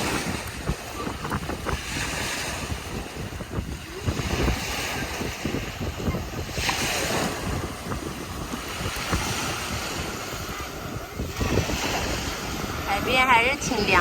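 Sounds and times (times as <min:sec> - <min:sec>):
ocean waves breaking: 0:00.0 - 0:14.0
wind buffeting microphone: 0:00.0 - 0:14.0.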